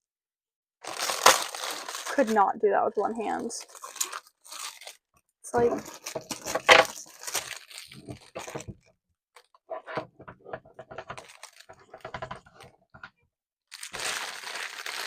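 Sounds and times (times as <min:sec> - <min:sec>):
plastic film crinkling: 0:00.8 - 0:09.5, 0:10.5 - 0:12.7, 0:13.7 - 0:15.0.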